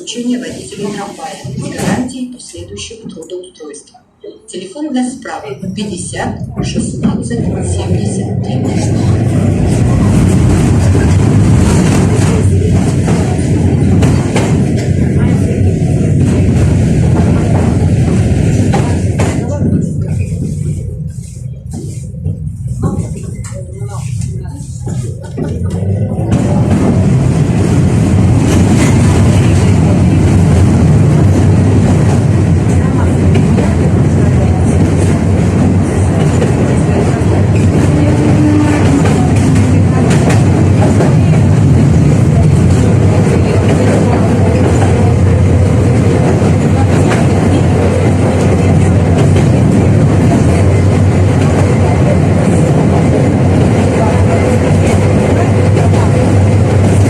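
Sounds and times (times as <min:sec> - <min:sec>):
tram rumbling on rails: 0:00.0 - 0:57.0.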